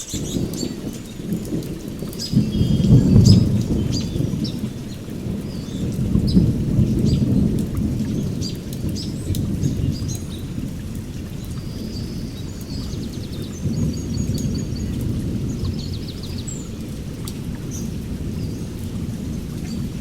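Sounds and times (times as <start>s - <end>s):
distant thunder rumbling: 0.0s - 20.0s
heavy rain: 0.0s - 20.0s.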